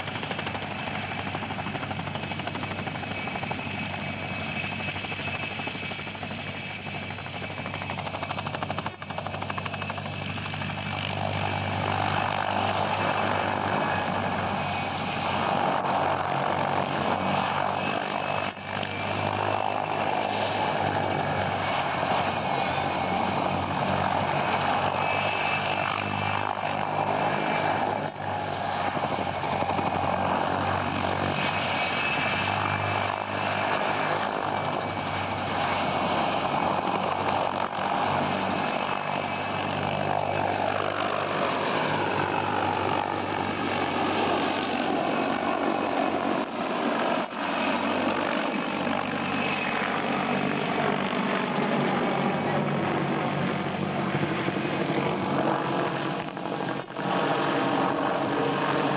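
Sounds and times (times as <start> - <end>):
helicopter rotor beat: 0.0 - 58.9
helicopter turbine engines whining: 0.0 - 58.9.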